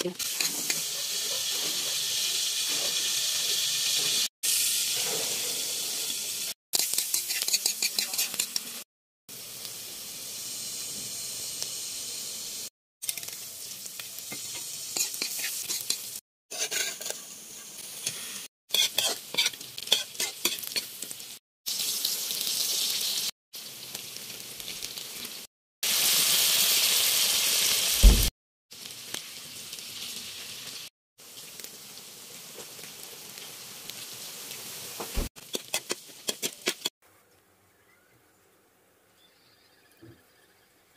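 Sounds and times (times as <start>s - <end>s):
meat sizzling in a pan: 0.0s - 37.0s.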